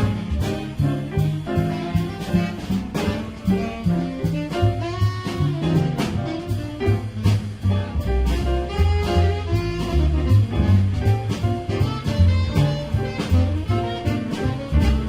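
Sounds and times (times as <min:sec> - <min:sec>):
saxophone line: 0:00.0 - 0:10.8, 0:11.6 - 0:15.0
drums and ride cymbal: 0:00.0 - 0:15.0
piano: 0:00.0 - 0:15.0
walking double bass: 0:00.0 - 0:15.0.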